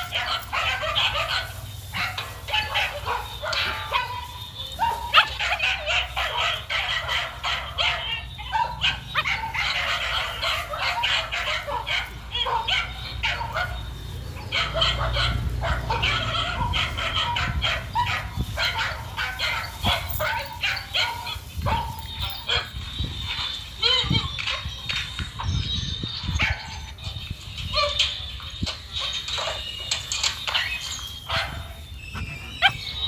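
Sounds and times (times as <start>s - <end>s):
dogs barking: 0.0s - 25.5s, 26.2s - 33.0s.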